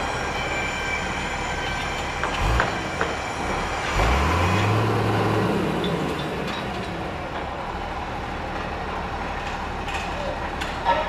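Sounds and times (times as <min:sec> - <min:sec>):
construction noise: 0:00.0 - 0:11.0
heavy vehicle traffic: 0:00.0 - 0:11.0.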